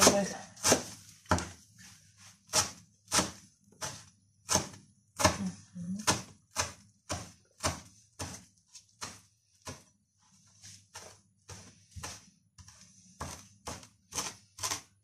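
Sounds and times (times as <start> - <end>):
knife chopping on cutting board: 0.0 - 1.6, 2.5 - 9.9, 10.9 - 14.9.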